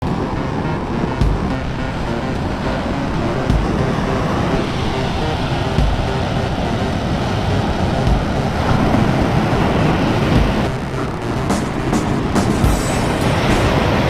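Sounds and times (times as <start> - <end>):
breaking surf: 0.0 - 14.0
wind on microphone: 0.0 - 14.0
wind gust thumps: 1.1 - 14.0.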